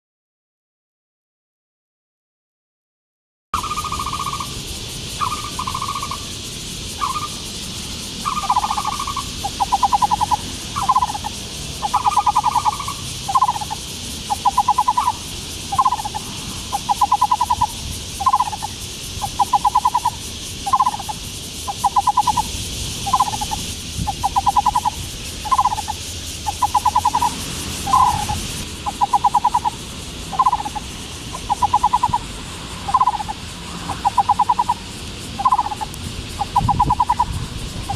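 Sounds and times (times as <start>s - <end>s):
barbet calling: 3.6s - 37.9s.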